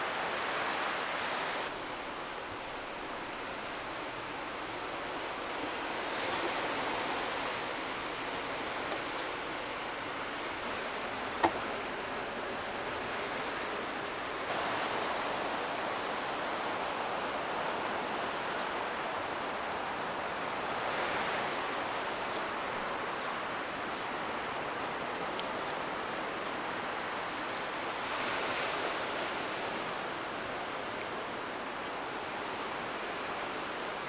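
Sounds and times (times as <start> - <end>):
sea surf: 0.0 - 34.0.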